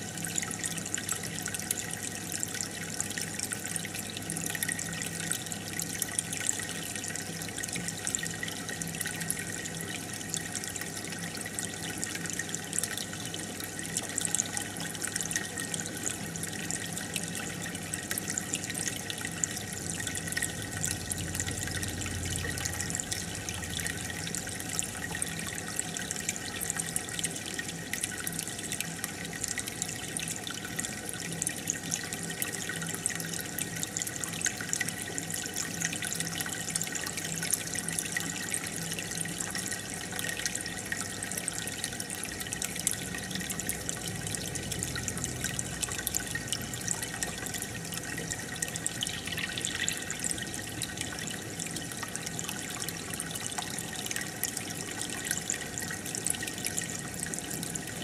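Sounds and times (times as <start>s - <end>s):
aquarium bubbling water: 0.0s - 58.0s.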